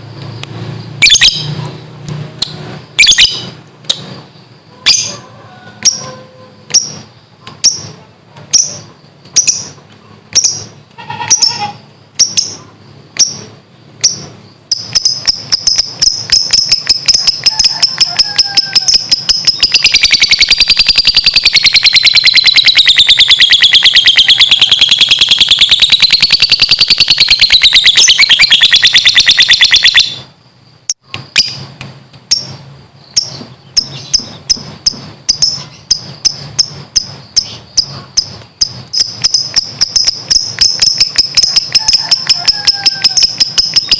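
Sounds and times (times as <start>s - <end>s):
shrill bird chirps: 0.8s - 1.8s, 3.0s - 5.2s, 8.6s - 30.3s, 32.3s - 43.9s
bird chattering trill: 3.0s - 5.2s, 5.8s - 30.3s, 32.3s - 43.9s.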